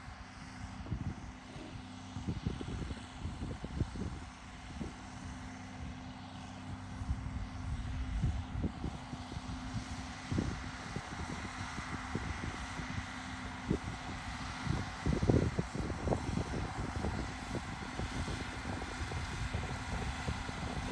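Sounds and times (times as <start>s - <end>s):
tractor engine running: 0.1s - 20.9s
wind buffeting microphone: 0.7s - 6.0s, 6.7s - 20.9s.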